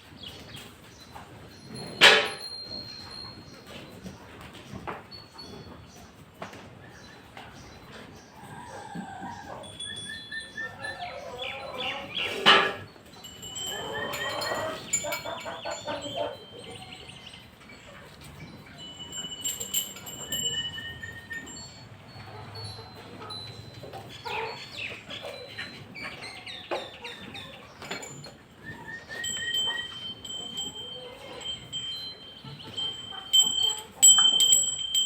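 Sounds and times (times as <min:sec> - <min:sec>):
farmyard birds chirping: 0:00.0 - 0:35.0.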